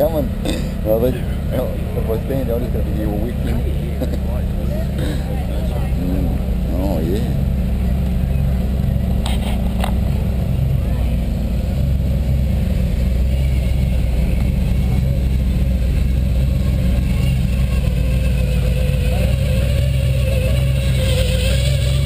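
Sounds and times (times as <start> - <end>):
car engines idling rumble: 0.0 - 22.0.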